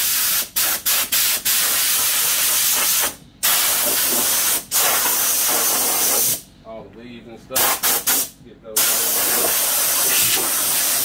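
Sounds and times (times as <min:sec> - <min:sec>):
compressed air hissing: 0:00.0 - 0:06.4, 0:07.6 - 0:11.0.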